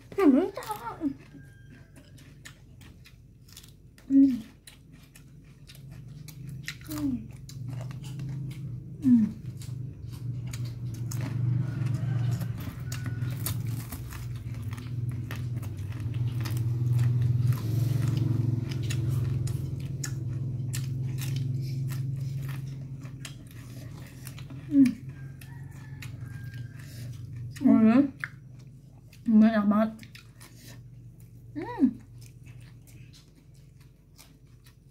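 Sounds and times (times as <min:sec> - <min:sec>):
people chewing crunchy vegetables: 0:00.0 - 0:34.9
steady low hum: 0:00.0 - 0:34.9.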